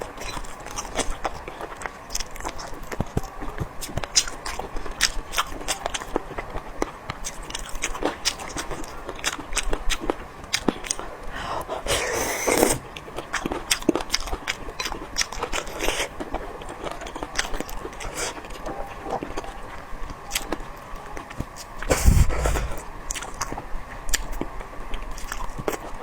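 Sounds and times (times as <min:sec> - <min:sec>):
close chewing and mouth smacks: 0:00.0 - 0:26.0.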